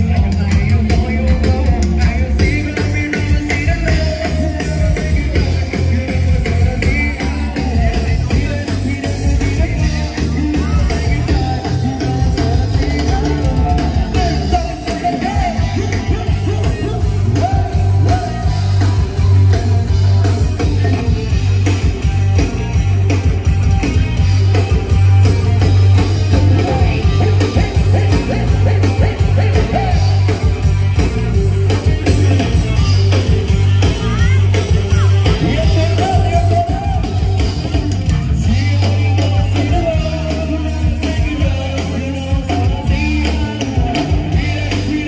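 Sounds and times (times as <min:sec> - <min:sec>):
live band playing: 0:00.0 - 0:45.0
person singing: 0:00.0 - 0:45.0
pulsing bass line: 0:00.0 - 0:45.0.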